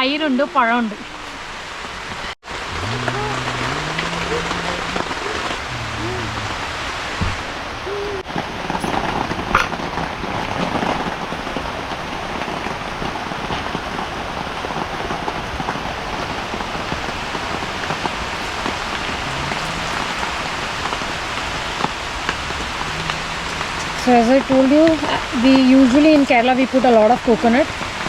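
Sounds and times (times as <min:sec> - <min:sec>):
heavy rain hiss: 0:00.0 - 0:08.2, 0:11.5 - 0:28.0.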